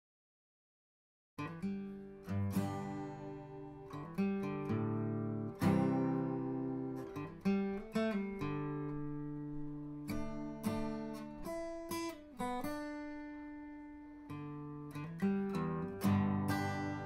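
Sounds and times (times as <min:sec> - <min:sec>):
acoustic guitar chords: 0:01.4 - 0:17.0.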